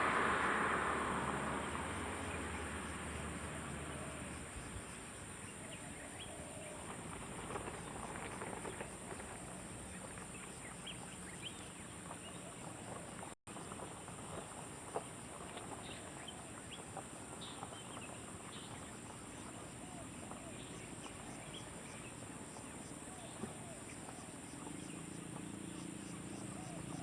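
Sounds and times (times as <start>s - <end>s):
steady high-pitched hiss: 0.0s - 27.0s.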